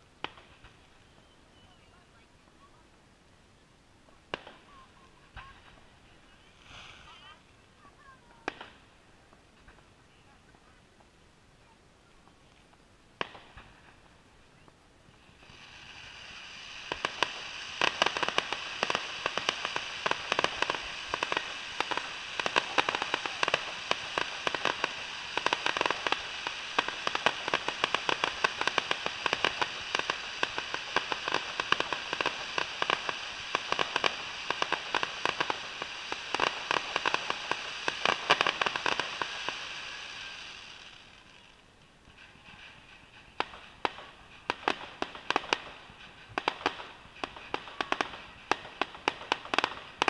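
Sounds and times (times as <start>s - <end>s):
fireworks crackling and popping: 0.0s - 50.0s
steady hiss: 0.0s - 50.0s.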